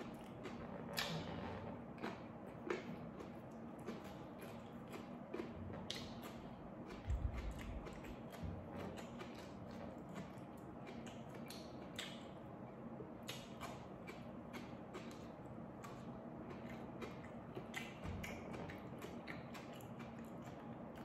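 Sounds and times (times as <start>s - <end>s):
wet chewing and mouth clicks: 2.0s - 12.4s, 13.2s - 21.0s.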